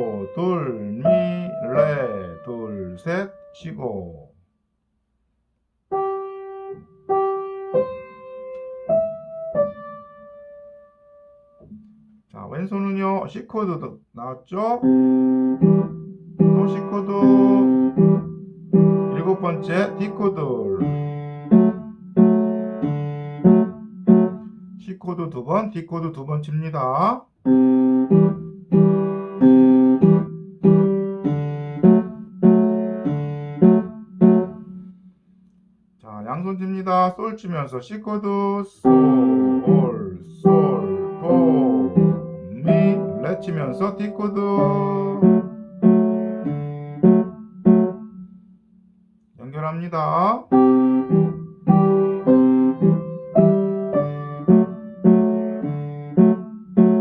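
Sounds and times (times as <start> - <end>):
slow piano melody: 0.0 - 4.1, 5.8 - 12.2, 14.8 - 25.5, 27.0 - 35.9, 38.8 - 49.3, 50.2 - 57.0.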